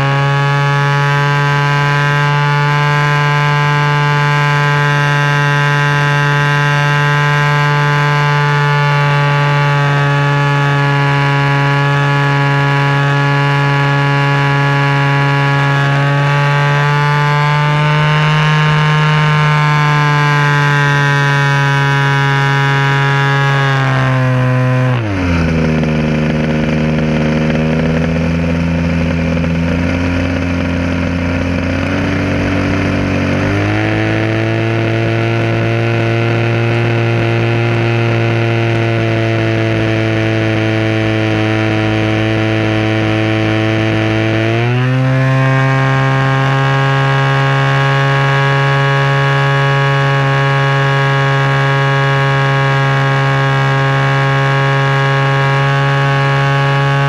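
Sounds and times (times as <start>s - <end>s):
two-stroke model plane engine: 0.0s - 57.0s.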